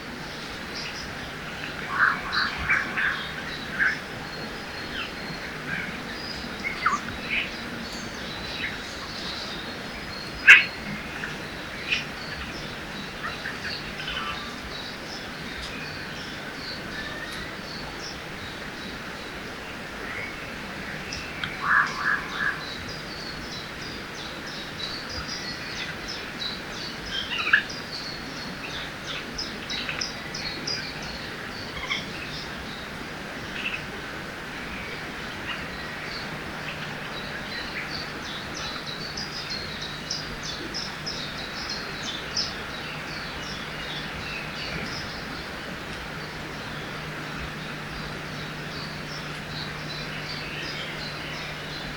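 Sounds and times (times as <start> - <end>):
river rushing: 0.0 - 51.9
small birds chirping: 0.2 - 51.9.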